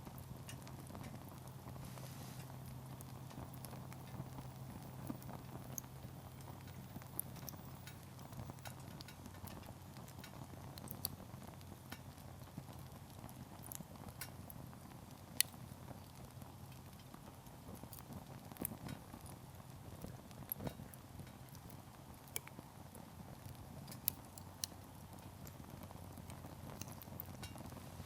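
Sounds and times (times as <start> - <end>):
campfire crackling: 0.0 - 28.0
firewood popping: 0.0 - 28.0.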